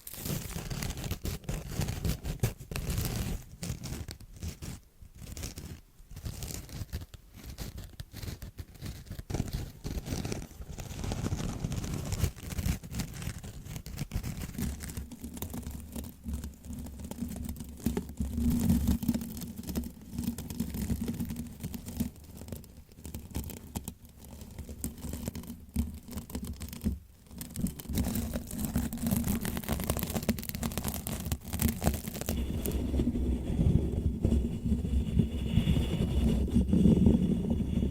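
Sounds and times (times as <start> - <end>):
close-up scratching and crackling: 0.0 - 37.9.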